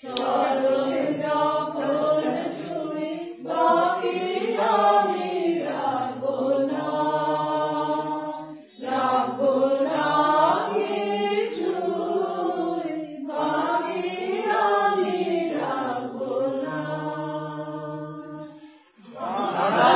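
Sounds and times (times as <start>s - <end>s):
women singing together: 0.0s - 19.9s.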